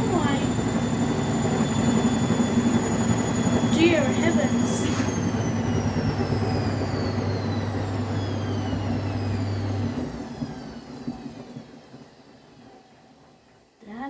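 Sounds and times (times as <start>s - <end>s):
low hum: 0.0s - 11.7s
washing machine drum spinning down: 0.0s - 13.7s.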